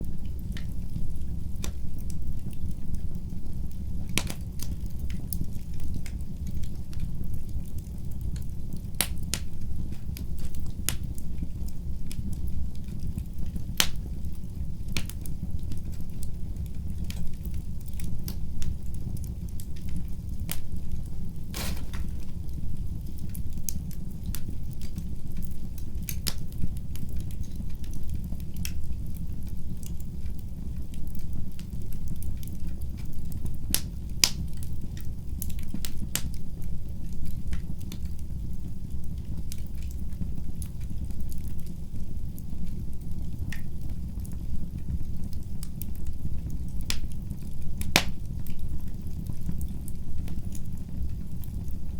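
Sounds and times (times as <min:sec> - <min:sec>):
low rumble of flames: 0:00.0 - 0:51.9
wood fire crackling and popping: 0:00.0 - 0:51.9.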